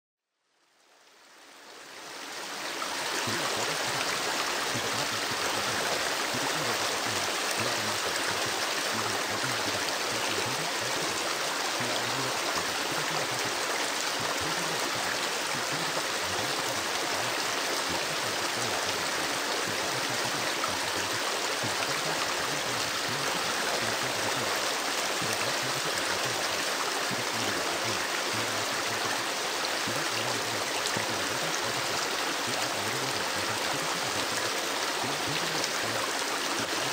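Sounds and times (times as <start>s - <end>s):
river water flowing: 0.5s - 36.9s.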